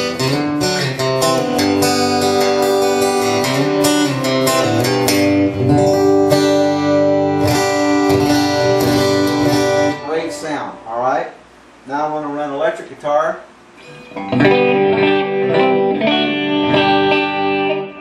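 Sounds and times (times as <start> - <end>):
guitar chords strummed: 0.0 - 10.9, 13.8 - 18.0.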